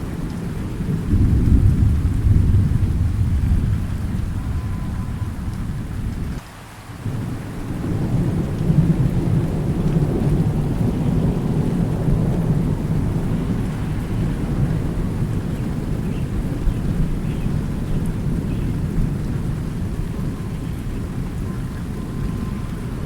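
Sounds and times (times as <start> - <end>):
thunder rumbling: 0.0 - 6.4, 7.0 - 23.0
steady rain: 0.0 - 23.0.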